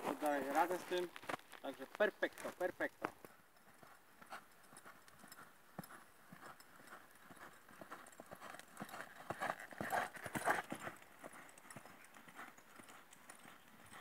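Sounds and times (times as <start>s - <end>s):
horse hoofbeats on sand: 0.0s - 14.0s.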